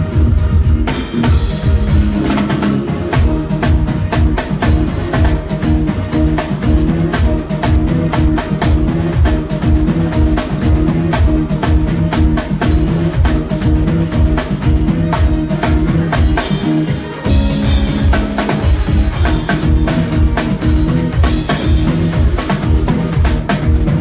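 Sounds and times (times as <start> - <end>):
bass notes: 0.0 - 24.0
drum kit beating rhythm: 0.0 - 24.0.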